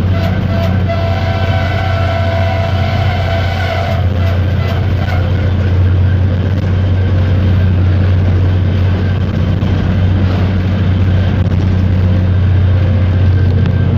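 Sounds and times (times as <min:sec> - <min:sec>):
diesel locomotive engine drone: 0:00.0 - 0:13.9
wheel and track noise: 0:00.0 - 0:13.9.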